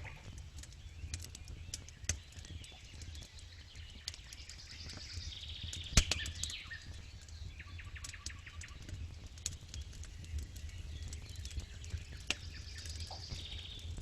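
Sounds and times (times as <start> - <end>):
bird singing trills: 0.0 - 8.9, 10.6 - 14.0
campfire crackling and popping: 0.0 - 14.0.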